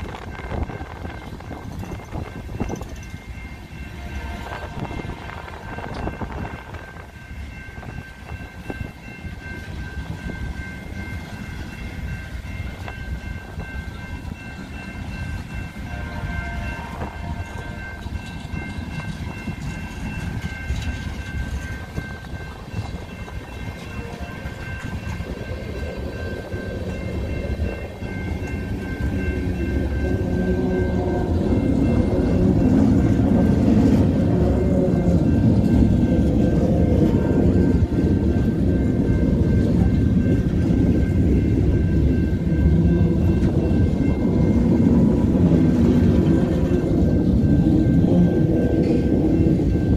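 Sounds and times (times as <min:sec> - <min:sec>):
steady high tones: 0:00.0 - 0:49.9
train wheels clacking on rails: 0:00.0 - 0:49.9.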